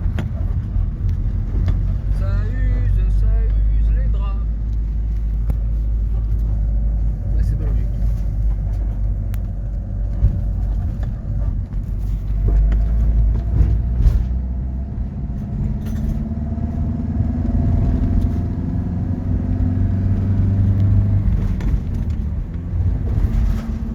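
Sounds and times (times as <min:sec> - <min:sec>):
vehicle engine and road rumble: 0:00.0 - 0:23.9.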